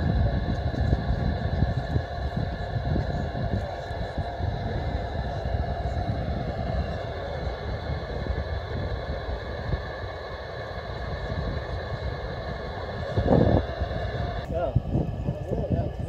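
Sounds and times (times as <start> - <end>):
distant rocket rumble: 0.0 - 16.0.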